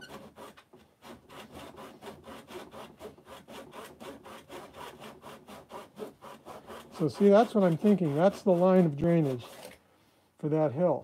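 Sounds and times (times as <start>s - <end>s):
hand saw cutting wood: 0.0s - 9.8s.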